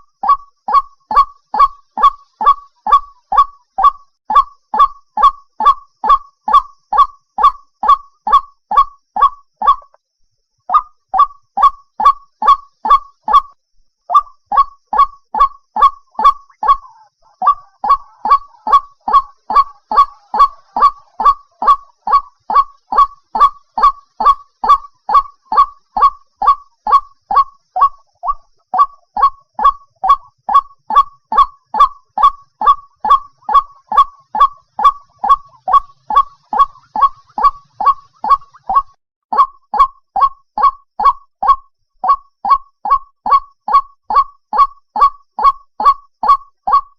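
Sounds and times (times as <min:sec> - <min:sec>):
waterhen calling: 0:00.0 - 0:10.0, 0:10.7 - 0:13.5, 0:14.1 - 0:46.9.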